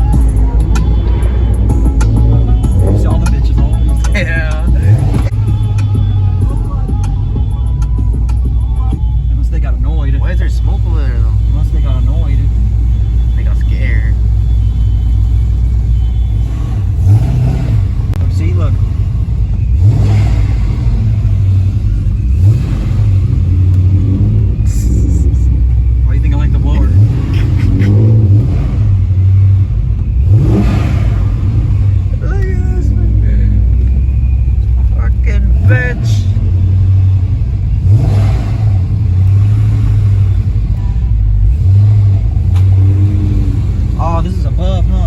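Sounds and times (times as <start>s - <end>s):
car engine drone: 0.0s - 45.0s.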